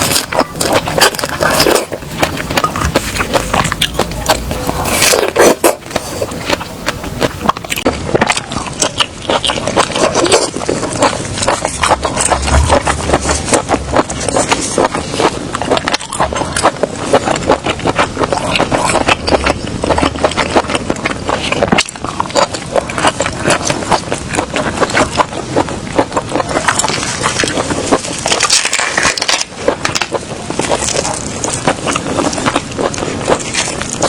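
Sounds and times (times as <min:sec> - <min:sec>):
crunching and chewing seafood: 0:00.0 - 0:34.0.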